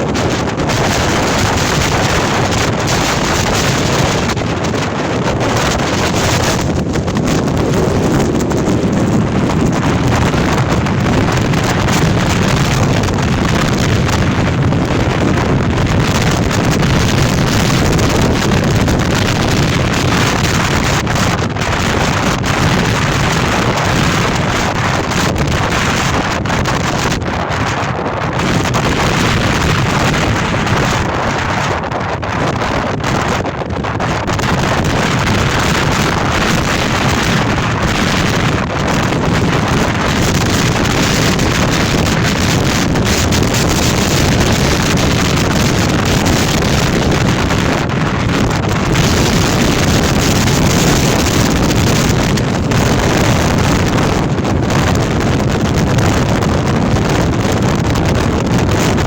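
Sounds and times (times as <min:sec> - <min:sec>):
gale wind blasting microphone: 0:00.0 - 0:59.0.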